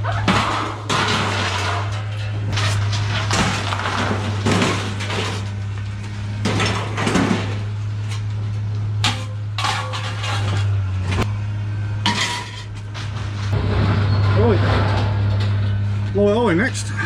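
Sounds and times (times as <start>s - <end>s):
scrap metal clanking: 0.1s - 11.3s, 12.0s - 15.9s
low engine hum: 2.3s - 17.0s.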